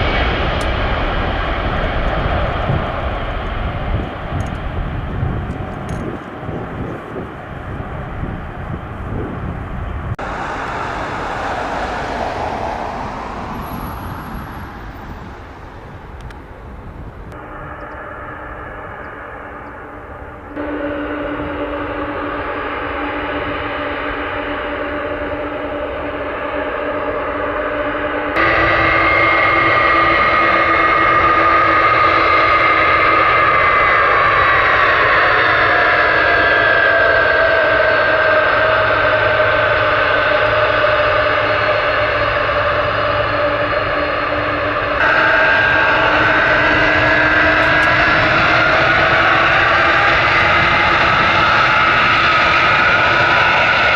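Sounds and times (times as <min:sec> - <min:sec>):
jet airliner engines passing: 0:00.0 - 0:53.9.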